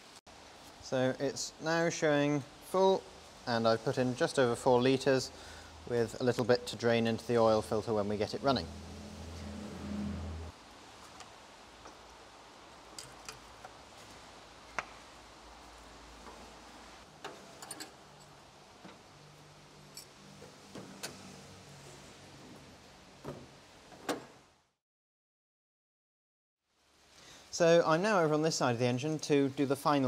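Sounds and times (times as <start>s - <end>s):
faint steady hiss: 0.0s - 9.4s, 10.1s - 24.5s, 26.6s - 30.0s.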